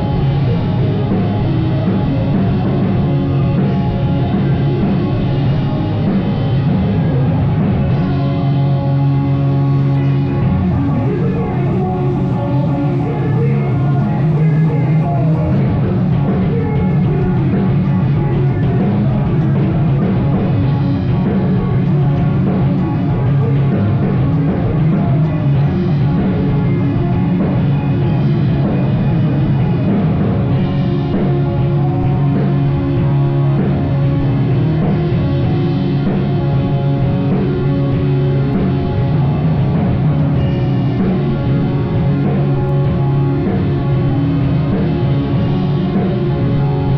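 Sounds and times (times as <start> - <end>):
drum kit: 0.0 - 46.9
rock band playing: 0.0 - 46.9.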